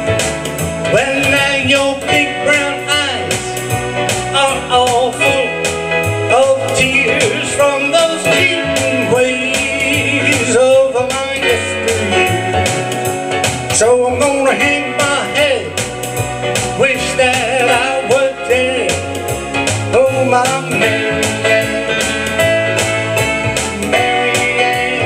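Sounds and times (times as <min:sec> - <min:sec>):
keyboard and guitar: 0:00.0 - 0:25.0
man singing: 0:00.8 - 0:25.0.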